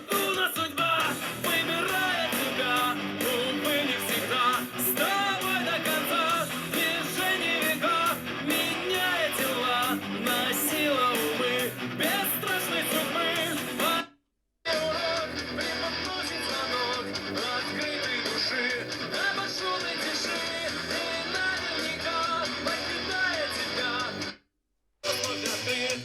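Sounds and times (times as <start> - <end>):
rock song through a speaker: 0.0 - 14.1, 14.7 - 24.4, 25.0 - 26.0.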